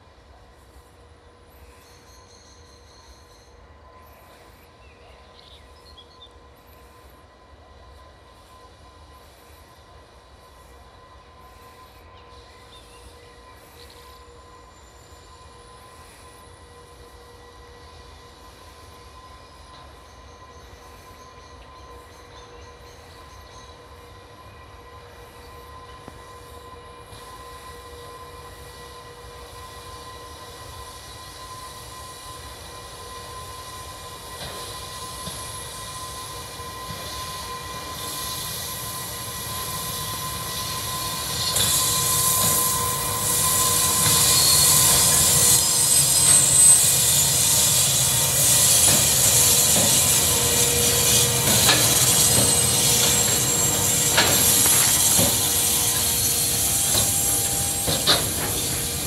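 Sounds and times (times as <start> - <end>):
electric locomotive whine: 0.0 - 59.0
wheels on rails hissing and clicking: 6.4 - 59.0.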